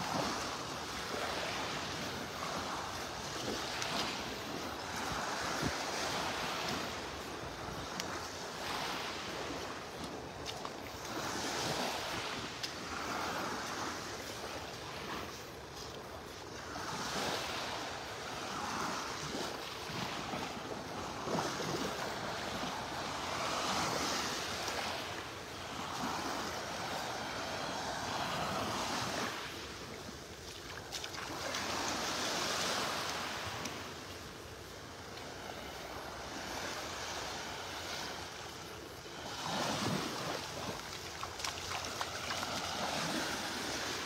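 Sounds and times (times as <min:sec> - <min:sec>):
small waves washing onto sand: 0:00.0 - 0:44.0.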